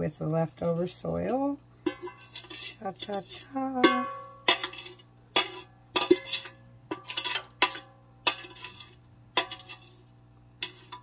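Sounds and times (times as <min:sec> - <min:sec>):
metal fork scraping enamel pot: 0:01.8 - 0:11.0.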